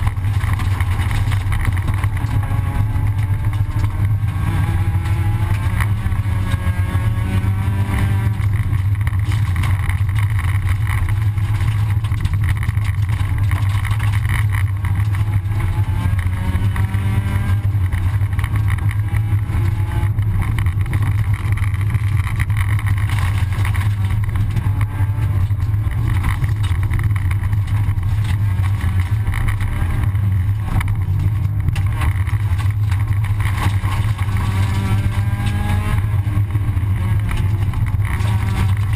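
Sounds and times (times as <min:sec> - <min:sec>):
rally car engine revving: 0:00.0 - 0:38.9
tyre and road noise: 0:00.0 - 0:38.9.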